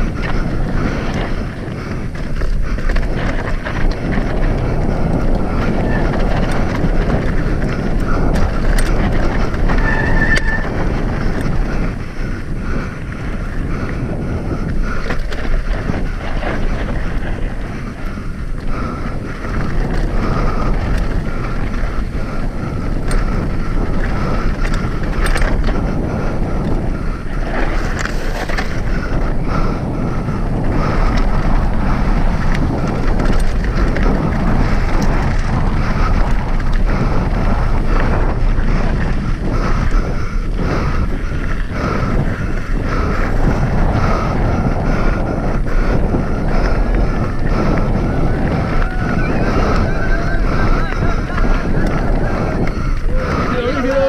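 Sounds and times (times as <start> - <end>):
mountain bike rattling on rocks: 0.0 - 54.0
wind buffeting microphone: 0.0 - 54.0.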